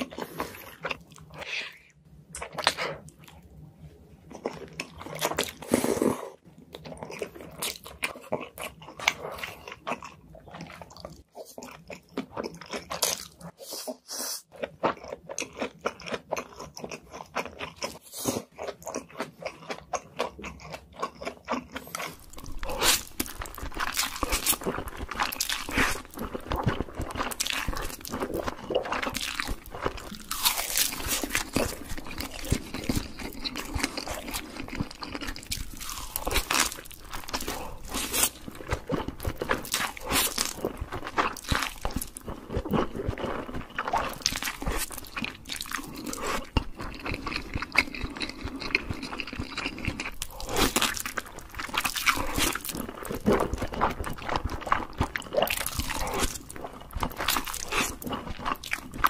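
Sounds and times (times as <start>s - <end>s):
close chewing and biting: 0.0s - 1.6s, 4.2s - 59.0s.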